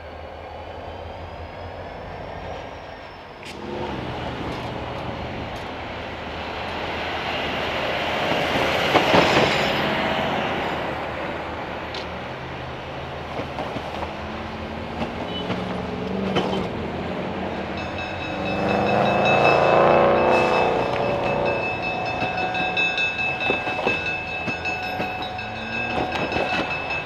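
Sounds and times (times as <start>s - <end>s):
diesel locomotive engine running: 0.0s - 27.0s
heavy road traffic: 0.0s - 27.0s
refuse truck passing: 3.4s - 27.0s.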